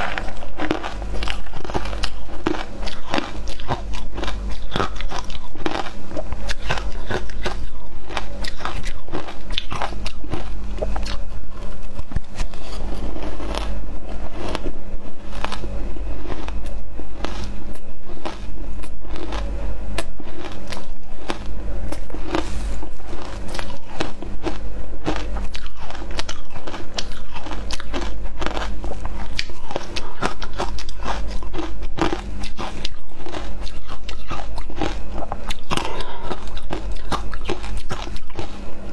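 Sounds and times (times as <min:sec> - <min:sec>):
ice being chewed crunching: 0:00.0 - 0:38.9.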